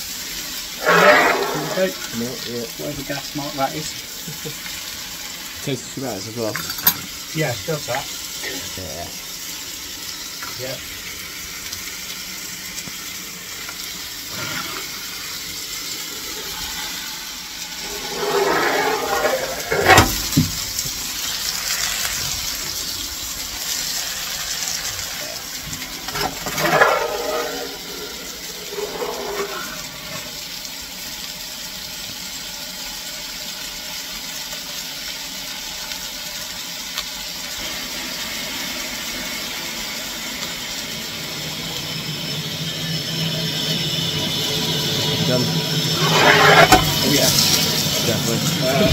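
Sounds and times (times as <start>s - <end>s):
rushing hiss of steam and fire: 0.0s - 48.9s.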